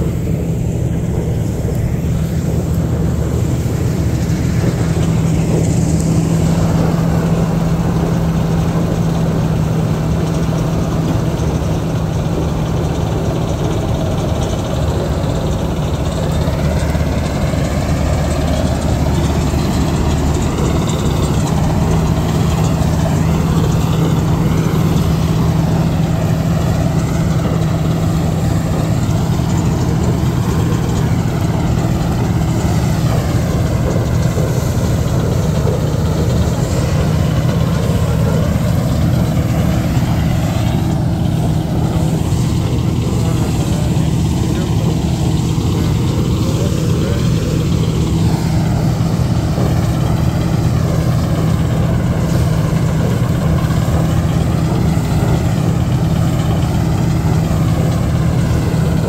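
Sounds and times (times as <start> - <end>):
combine harvester engine hum: 0.0 - 59.0
high wavering whine: 0.0 - 59.0.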